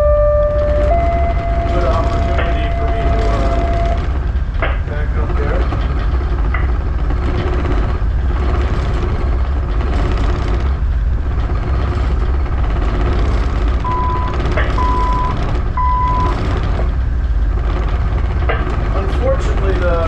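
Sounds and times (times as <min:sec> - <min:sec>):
tugboat engines droning: 0:00.0 - 0:20.0.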